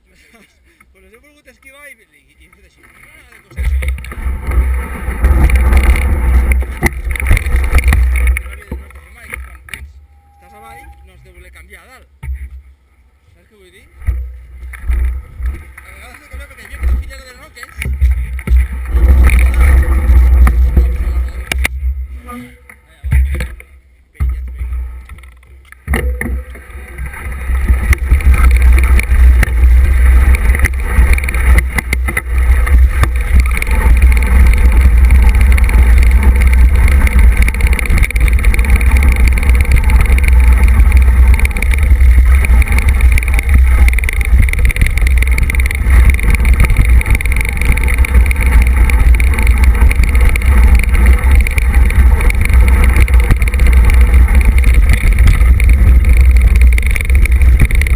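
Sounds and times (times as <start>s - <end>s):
bike tyre noise: 0.0s - 57.9s
bike rattling over bumps: 2.4s - 12.8s, 13.4s - 57.9s
wind rumble on microphone: 3.6s - 11.4s, 13.9s - 22.2s, 24.3s - 57.9s.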